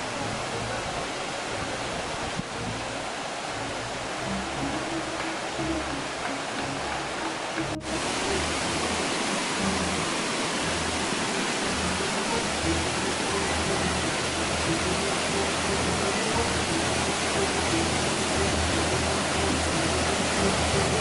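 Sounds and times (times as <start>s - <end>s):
background music: 0.0s - 21.0s
waterfall rushing: 0.0s - 21.0s.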